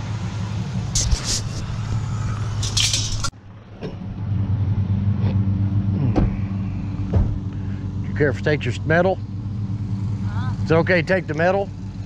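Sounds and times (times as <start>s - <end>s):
truck engine humming low: 0.0s - 12.0s.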